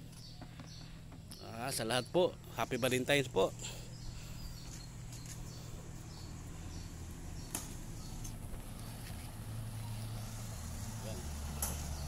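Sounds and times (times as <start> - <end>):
engine idling hum: 2.0 - 12.0.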